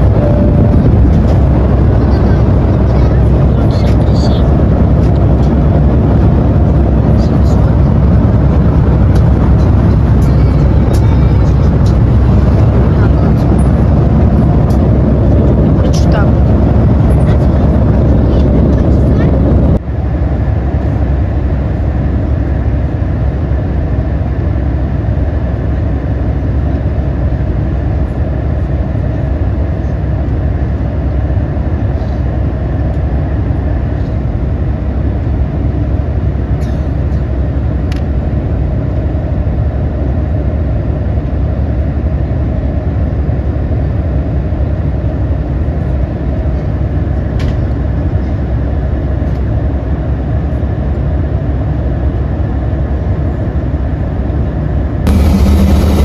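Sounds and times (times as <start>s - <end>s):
airliner cabin engine noise: 0.0s - 56.0s.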